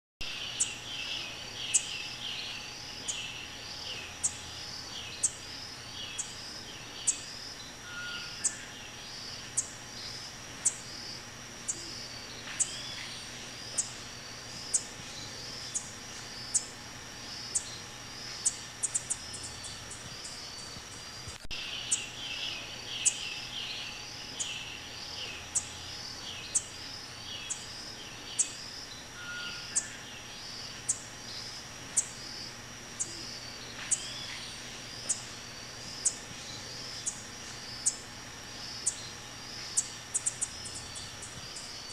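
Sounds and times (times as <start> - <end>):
high insect drone: 0.2 - 41.9.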